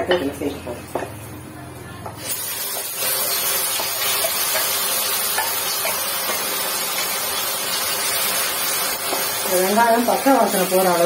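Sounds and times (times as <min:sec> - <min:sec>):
onion paste sizzling in pan: 0:02.1 - 0:11.0.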